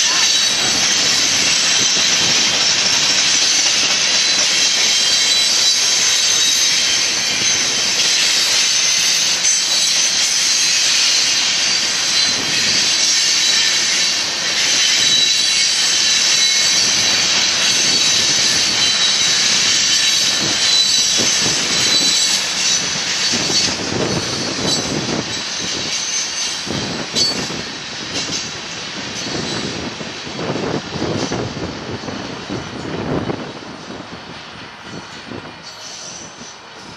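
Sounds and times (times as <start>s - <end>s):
freight train wheels rumbling on rail: 0.0s - 36.9s
train cars knocking and clacking: 0.0s - 36.9s.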